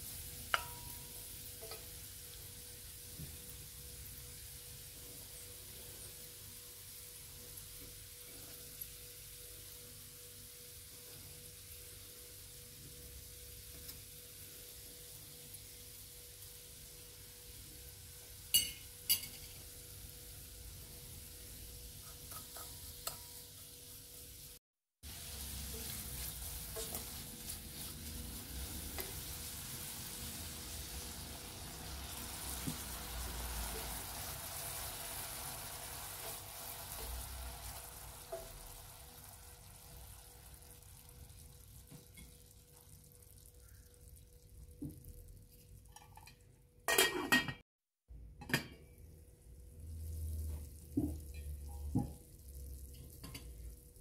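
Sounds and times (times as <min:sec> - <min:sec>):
carrots sizzling in oil: 0:00.0 - 0:46.3, 0:49.5 - 0:54.0.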